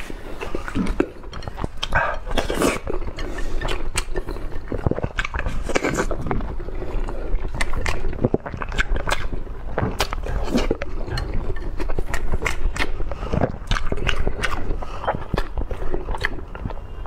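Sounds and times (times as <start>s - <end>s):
chewing with wet mouth sounds: 0.0s - 17.0s.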